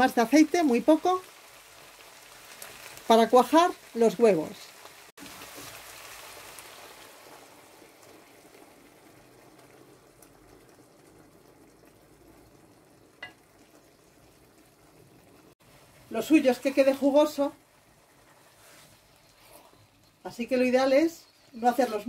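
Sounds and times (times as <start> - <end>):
eggs sizzling in frying pan: 0.0 - 22.0.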